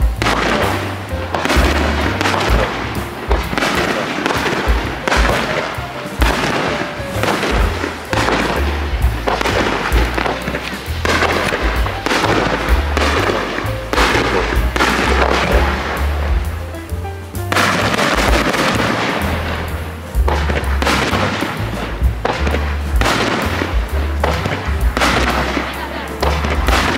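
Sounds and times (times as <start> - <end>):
fireworks bangs and crackles: 0.0 - 26.9
music with stepping bass line: 0.0 - 26.9.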